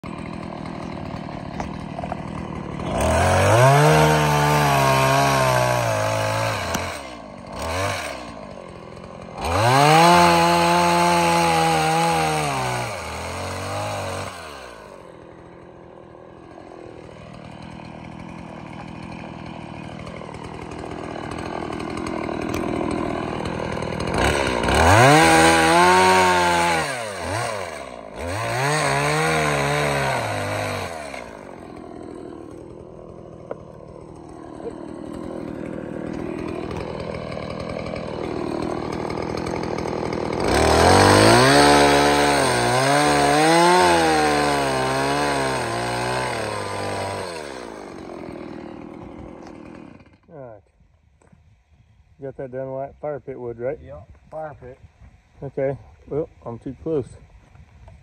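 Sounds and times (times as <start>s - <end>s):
chainsaw revving: 0.0s - 50.4s.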